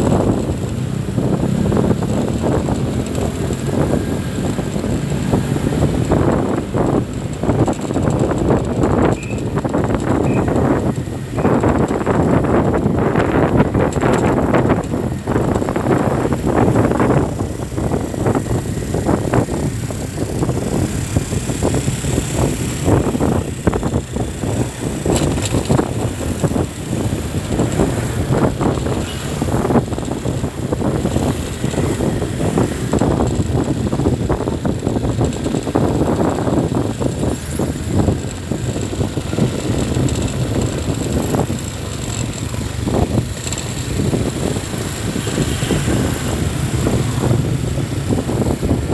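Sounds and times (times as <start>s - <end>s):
rumble of passing vehicles: 0.0s - 48.9s.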